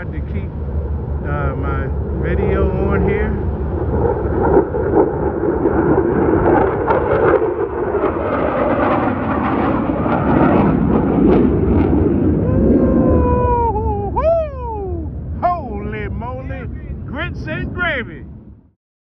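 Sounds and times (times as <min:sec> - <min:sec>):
jet aircraft roaring past: 0:00.0 - 0:18.7.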